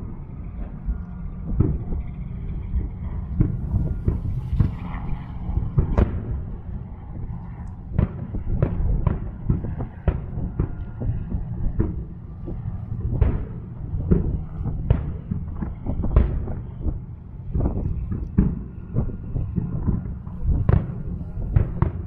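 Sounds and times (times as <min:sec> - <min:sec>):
low rumble: 0:00.0 - 0:22.0
firework shells booming: 0:01.5 - 0:02.0, 0:02.8 - 0:04.9, 0:05.5 - 0:06.6, 0:07.9 - 0:22.0.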